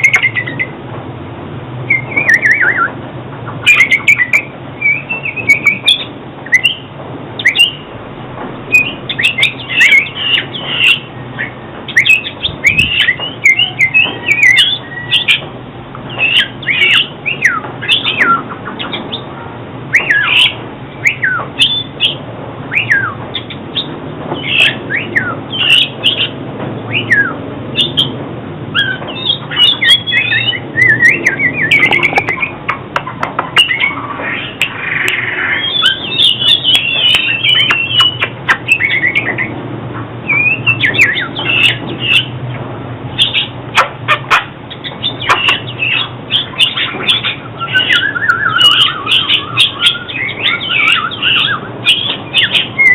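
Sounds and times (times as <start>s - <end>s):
bird chattering: 0.0s - 0.8s, 1.9s - 7.9s, 8.7s - 15.5s, 16.1s - 19.3s, 19.9s - 42.5s, 43.1s - 52.9s
bird singing whistled notes: 0.0s - 0.8s, 1.9s - 3.0s, 3.6s - 7.9s, 8.7s - 15.4s, 16.1s - 19.2s, 19.9s - 32.6s, 33.6s - 39.5s, 40.2s - 42.3s, 44.7s - 52.9s.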